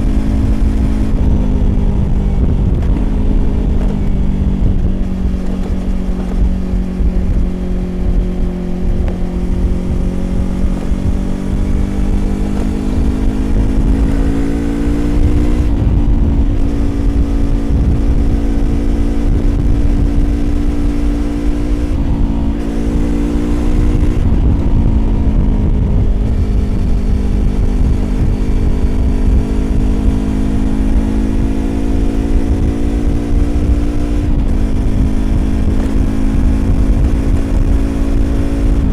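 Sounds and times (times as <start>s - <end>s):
motorcycle engine cruising: 0.0s - 38.9s
road rumble: 0.0s - 38.9s
wind noise: 0.0s - 38.9s.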